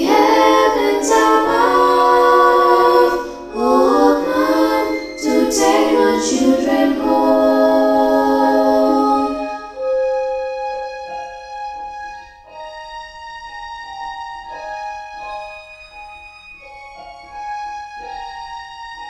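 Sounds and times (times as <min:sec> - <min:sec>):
slow keyboard hymn melody: 0:00.0 - 0:19.0.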